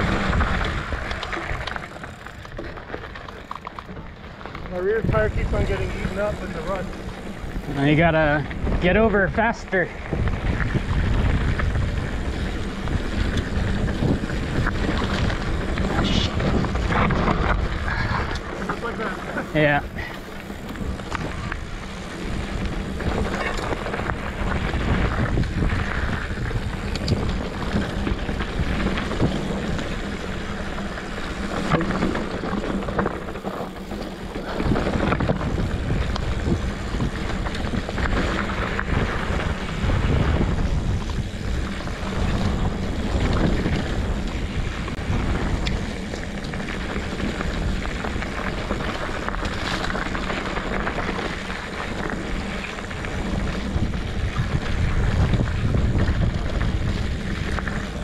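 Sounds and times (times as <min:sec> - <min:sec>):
tyres rumbling on dirt trail: 0:00.0 - 0:58.0
wind buffeting microphone: 0:00.0 - 0:58.0.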